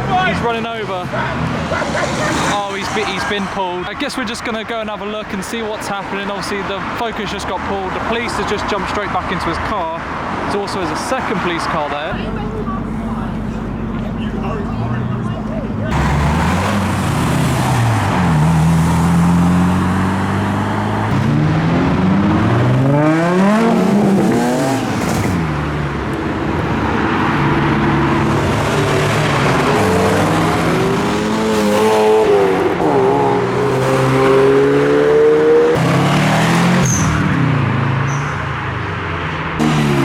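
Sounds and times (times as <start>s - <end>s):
car engines revving: 0.0s - 40.0s.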